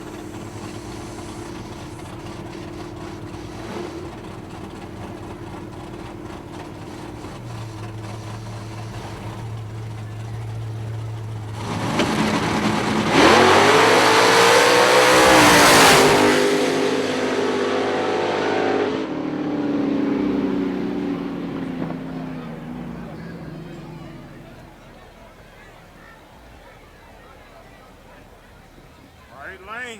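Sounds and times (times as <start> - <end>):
cars drag racing: 0.0 - 29.9.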